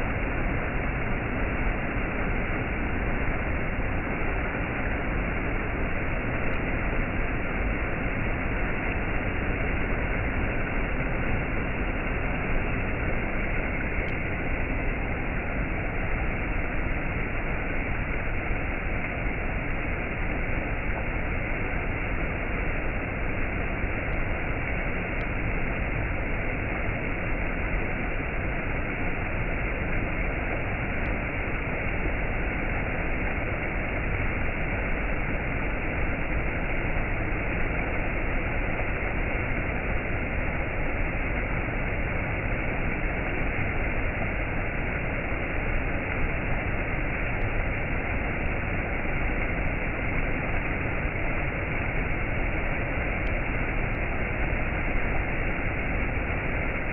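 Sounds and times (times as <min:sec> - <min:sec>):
steady rushing noise: 0:00.0 - 0:56.9.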